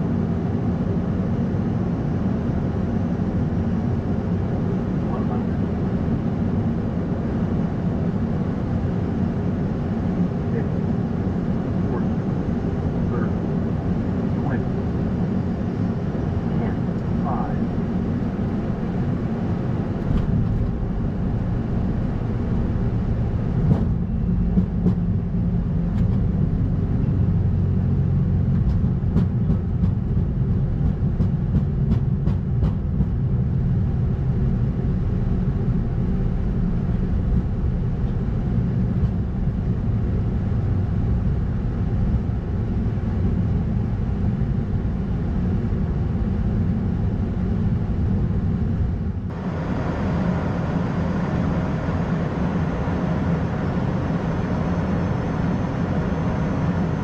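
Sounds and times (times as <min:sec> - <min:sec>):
jet engines idling rumble: 0:00.0 - 0:57.0.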